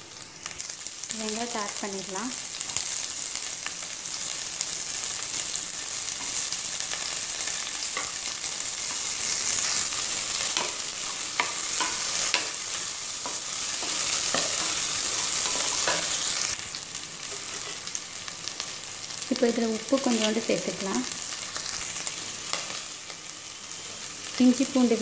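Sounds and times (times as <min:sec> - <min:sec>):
onions sizzling in oil: 0:00.0 - 0:25.0.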